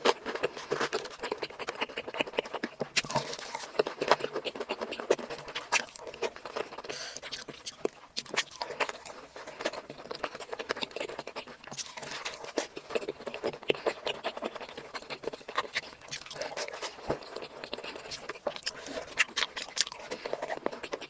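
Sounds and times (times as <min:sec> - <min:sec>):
chewing and mouth sounds: 0:00.0 - 0:21.0.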